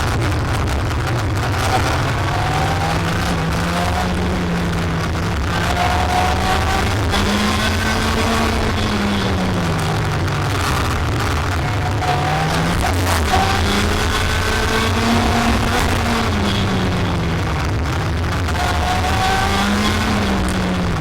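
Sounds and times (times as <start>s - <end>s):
kart engine drone: 0.0s - 21.0s.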